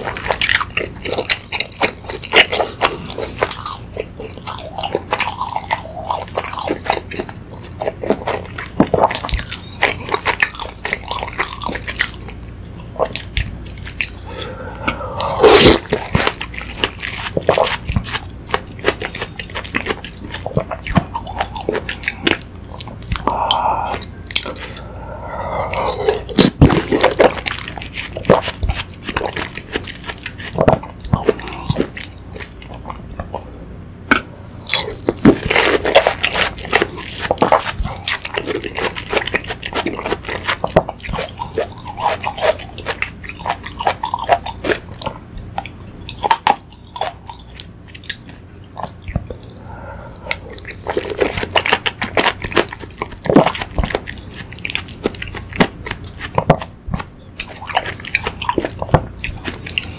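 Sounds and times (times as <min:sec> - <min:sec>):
wet chewing and slurping: 0:00.0 - 0:59.9.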